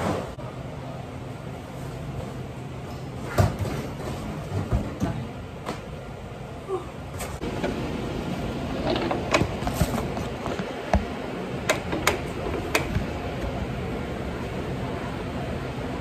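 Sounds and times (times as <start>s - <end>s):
steady kitchen hum: 0.0s - 16.0s.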